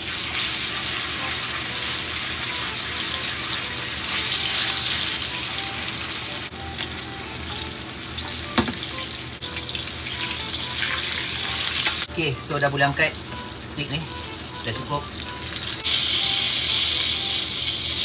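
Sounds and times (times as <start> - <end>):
steak sizzling in a pan: 0.0 - 12.1, 12.7 - 18.0.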